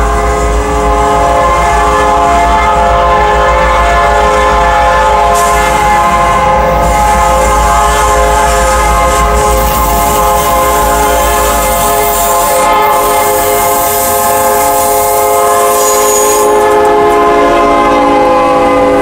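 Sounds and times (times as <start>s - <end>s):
locomotive air horn blast: 0.0s - 19.0s
low train rumble: 0.0s - 19.0s.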